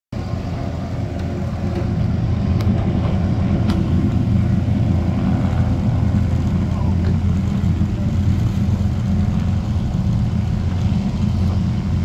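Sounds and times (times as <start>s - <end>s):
powerboat engines rumbling: 0.2s - 12.0s.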